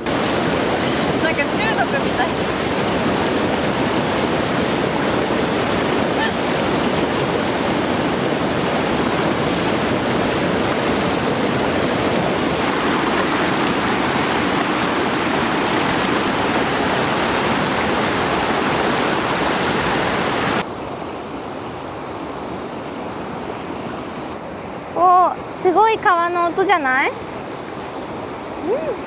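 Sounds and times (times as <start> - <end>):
river rushing over rocks: 0.0 - 23.5.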